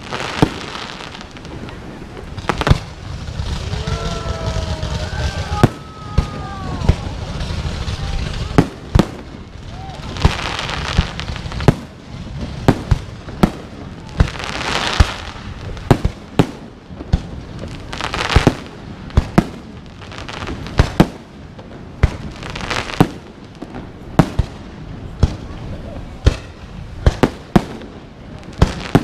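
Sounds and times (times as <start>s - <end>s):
fireworks booming: 0.0s - 29.0s.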